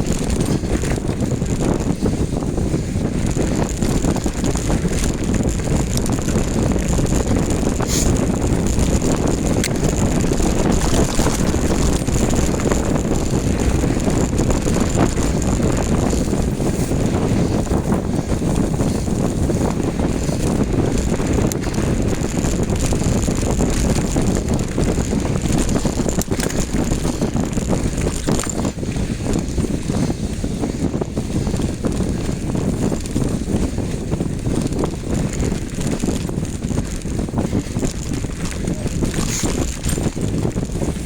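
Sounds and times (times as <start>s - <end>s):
mountain bike on dirt trail: 0.0s - 41.0s
wind buffeting microphone: 0.0s - 41.0s.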